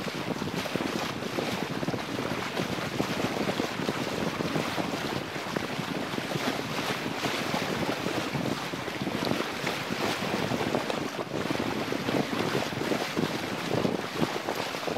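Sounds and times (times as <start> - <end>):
water rushing along hull: 0.0 - 14.9
wind buffeting microphone: 0.0 - 14.9.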